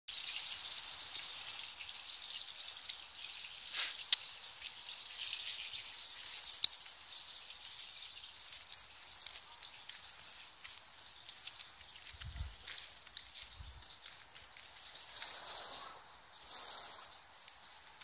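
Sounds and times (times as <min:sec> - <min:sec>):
high-pitched insect chorus: 0:00.2 - 0:18.0.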